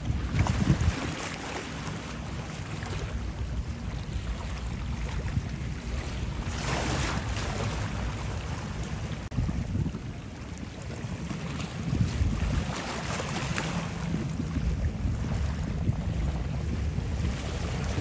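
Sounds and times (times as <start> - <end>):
choppy water washing at shore: 0.0 - 18.0
wind buffeting microphone: 0.0 - 18.0.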